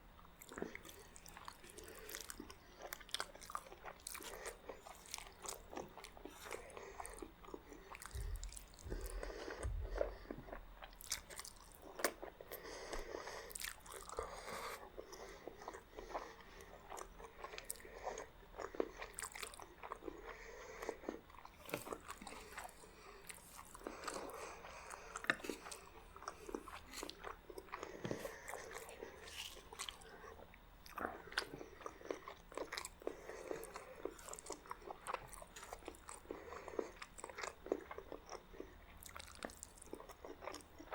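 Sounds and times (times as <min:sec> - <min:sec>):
chewing and biting: 0:00.4 - 0:40.9.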